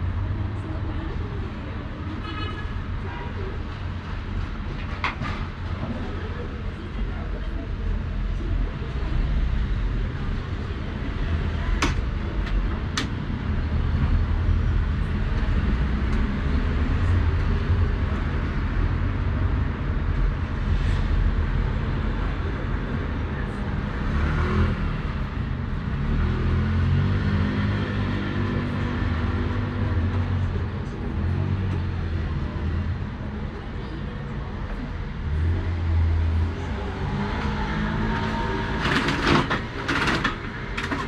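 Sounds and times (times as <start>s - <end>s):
low rumble of road traffic: 0.0s - 41.0s.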